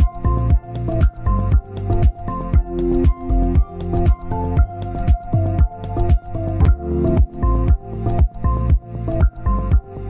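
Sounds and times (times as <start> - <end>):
electronic music with synth chords: 0.0 - 10.0.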